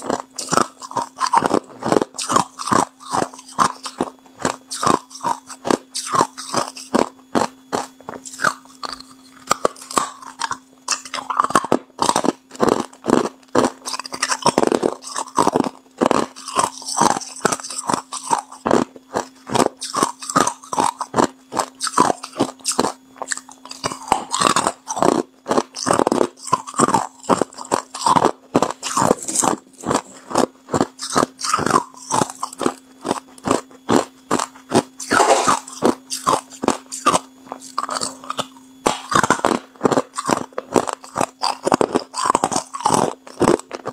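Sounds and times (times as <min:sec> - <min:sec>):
person crunching ice: 0:00.0 - 0:43.9.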